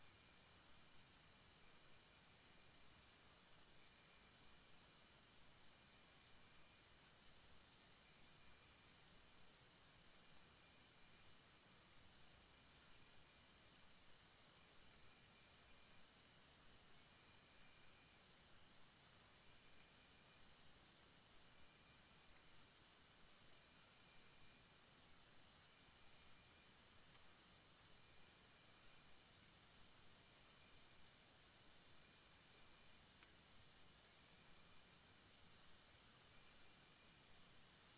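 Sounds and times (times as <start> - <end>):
insect chorus pulsing trill: 0.0 - 37.8.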